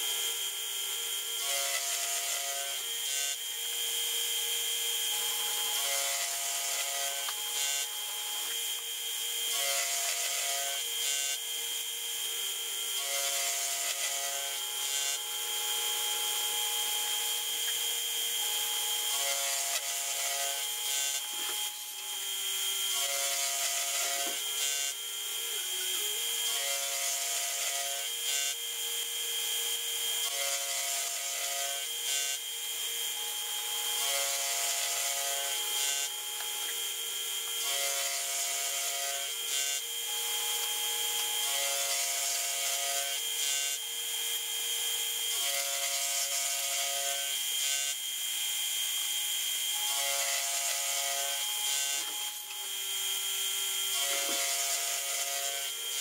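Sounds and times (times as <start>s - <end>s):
milling machine whine: 0.0s - 56.0s
metal cutting grind: 1.3s - 4.3s, 5.0s - 56.0s.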